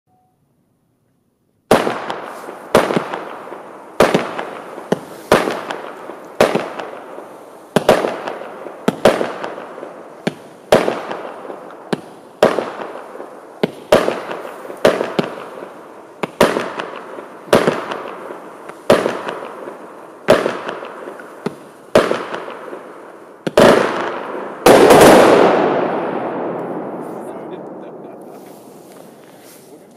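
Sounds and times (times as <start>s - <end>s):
fireworks reports with fizzing hiss: 1.7s - 29.9s.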